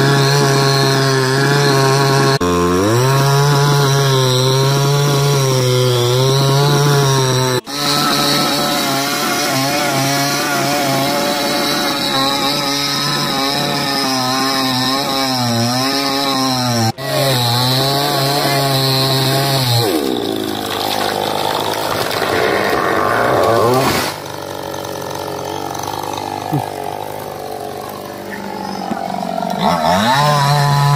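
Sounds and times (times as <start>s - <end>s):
chainsaw cutting wood: 0.0s - 30.9s.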